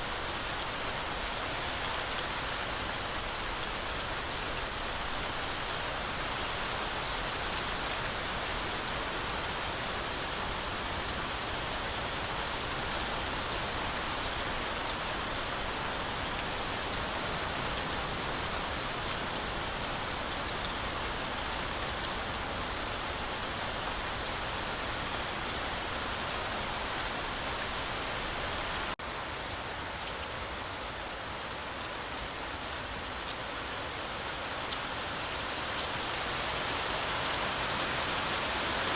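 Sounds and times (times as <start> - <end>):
heavy rain on forest canopy: 0.0 - 38.9.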